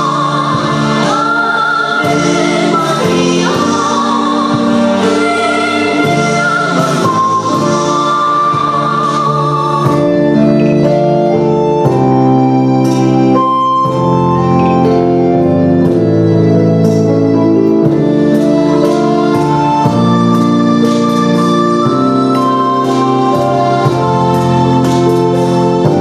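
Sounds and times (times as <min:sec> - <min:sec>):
organ-like keyboard chords: 0:00.0 - 0:26.0.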